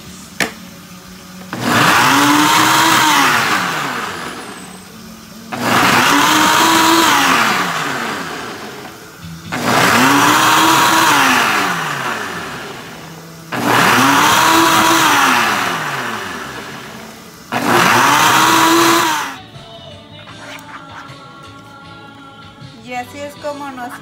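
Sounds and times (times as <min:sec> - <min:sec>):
blender motor running: 0:00.0 - 0:19.4.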